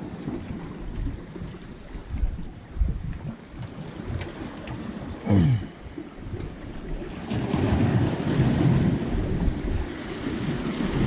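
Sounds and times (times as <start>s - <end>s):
wind buffeting microphone: 0.0s - 5.2s, 5.9s - 11.0s
waves washing on shore: 0.0s - 11.0s.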